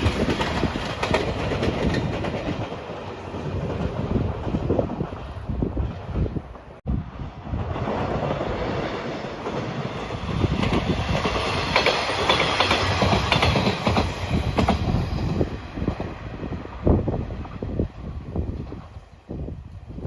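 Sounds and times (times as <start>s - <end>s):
train wheels clicking over rail joints: 0.0s - 6.3s, 7.7s - 17.9s.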